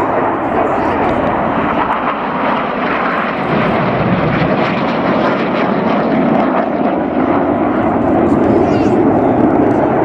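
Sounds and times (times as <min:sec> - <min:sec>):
jet engines rushing: 0:00.0 - 0:10.0.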